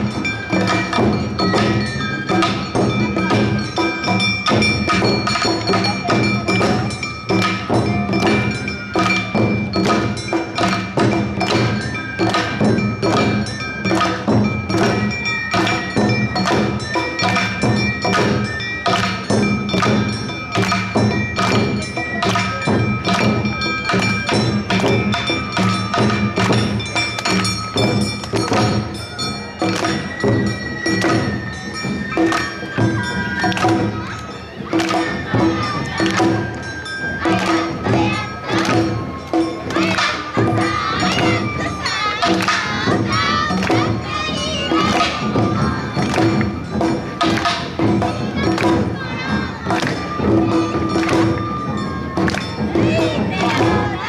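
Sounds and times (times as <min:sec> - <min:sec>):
drum strikes: 0:00.0 - 0:54.0.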